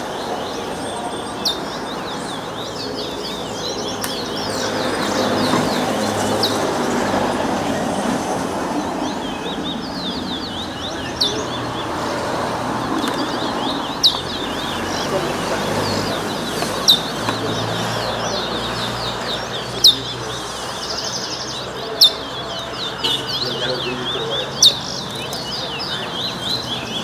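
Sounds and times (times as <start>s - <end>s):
murmur of crowd talking: 0.0s - 27.0s
songbirds chirping: 0.0s - 27.0s.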